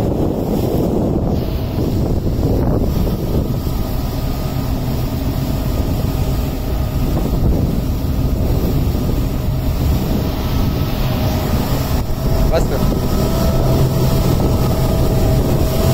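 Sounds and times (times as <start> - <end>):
outboard motors running: 0.0 - 15.9
water rushing past hull: 0.0 - 15.9
wind buffeting microphone: 0.0 - 15.9.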